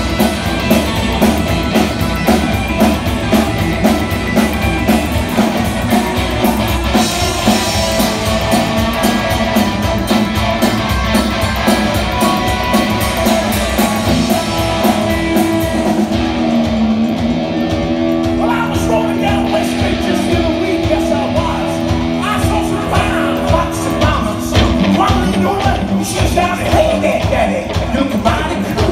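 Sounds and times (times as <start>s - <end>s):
sustained guitar notes: 0.0s - 28.0s
rock and roll band playing: 0.0s - 28.9s.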